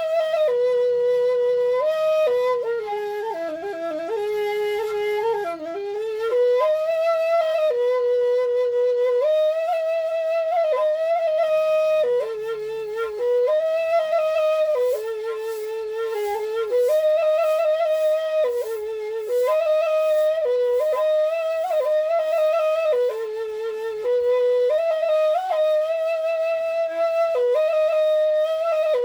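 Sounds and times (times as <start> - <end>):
bamboo flute slow melody: 0.0 - 29.0.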